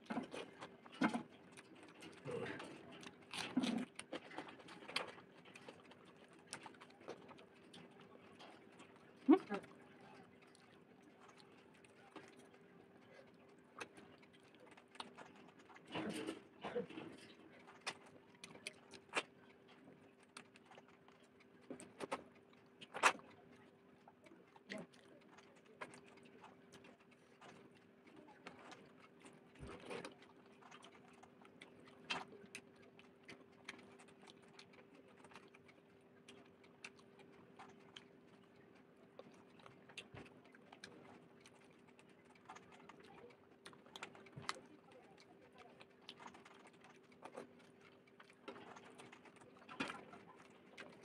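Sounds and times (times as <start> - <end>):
chewing and lip smacks: 0.0 - 51.0
faint steady hum: 0.0 - 51.0.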